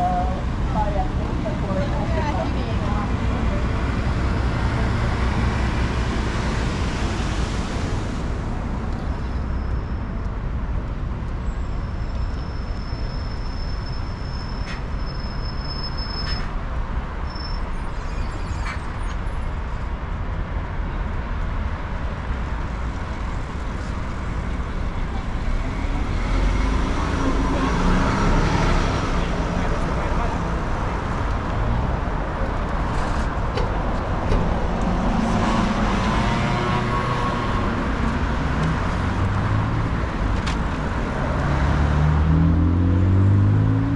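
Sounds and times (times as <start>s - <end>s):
road traffic noise: 0.0s - 43.9s.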